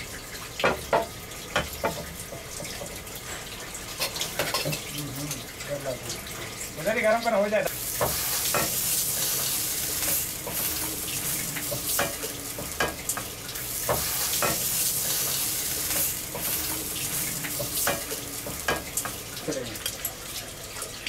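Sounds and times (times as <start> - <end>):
butter sizzling in a pan: 0.0 - 21.0.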